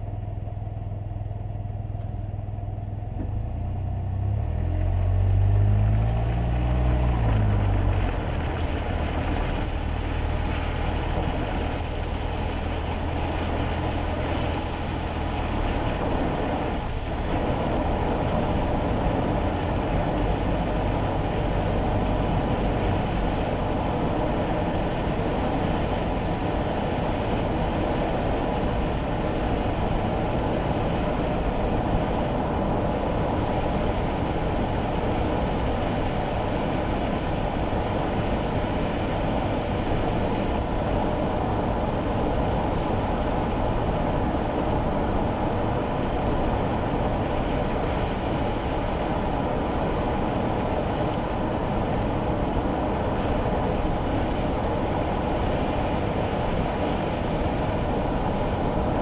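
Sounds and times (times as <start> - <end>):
car engine from inside cabin: 0.0 - 59.0
tyre noise on wet road: 0.0 - 59.0.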